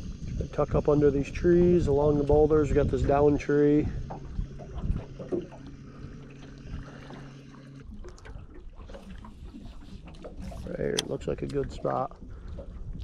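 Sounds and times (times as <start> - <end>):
electric trolling motor humming: 0.0 - 13.0
water lapping against hull: 0.0 - 13.0.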